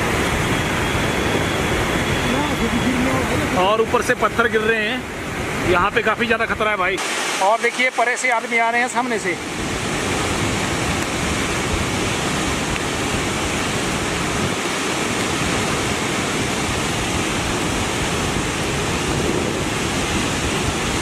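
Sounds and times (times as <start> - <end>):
river rushing in flood: 0.0 - 21.0.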